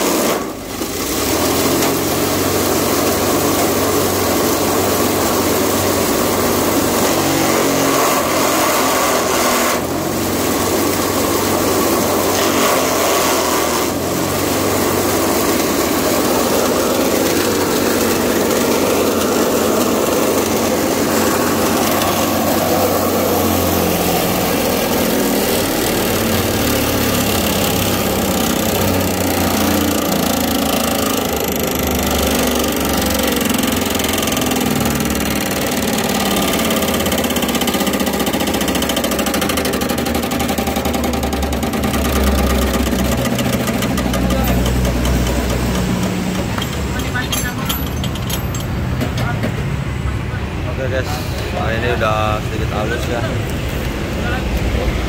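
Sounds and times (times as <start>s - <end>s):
electric wood chipper shredding branches: 0.0s - 48.1s, 51.2s - 55.0s.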